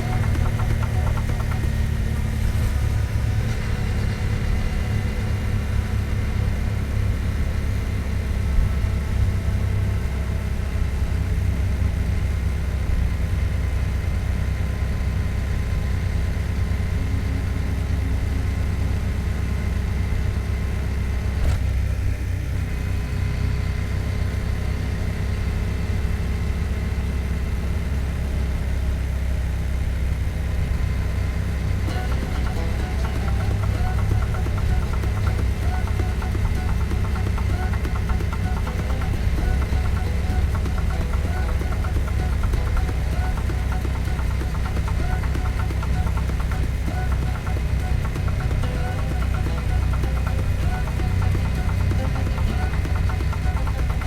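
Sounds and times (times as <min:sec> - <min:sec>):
motorcycle engine rumbling: 0:00.0 - 0:22.6, 0:31.2 - 0:54.0.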